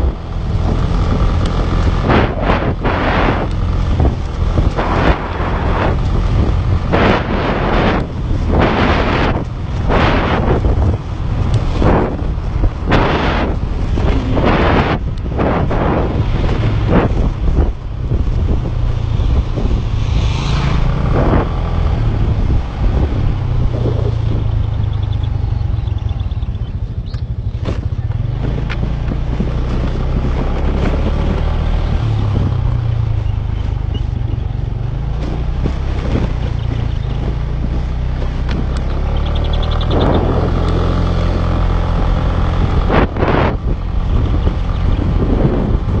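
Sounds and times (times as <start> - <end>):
motorcycle engine running: 0.0 - 46.0
wind noise on microphone: 0.0 - 46.0.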